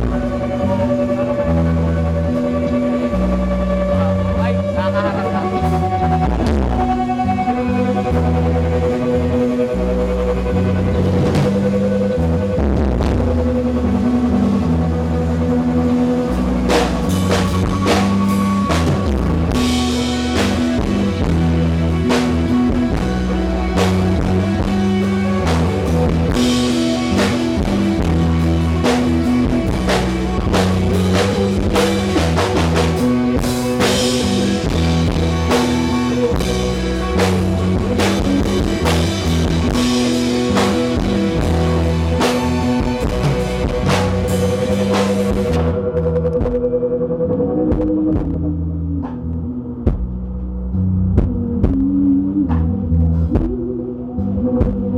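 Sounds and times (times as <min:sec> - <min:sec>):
drum kit: 0:00.0 - 0:47.0, 0:47.6 - 0:54.9
bass guitar notes: 0:00.0 - 0:54.9
electric guitar: 0:00.0 - 0:54.9.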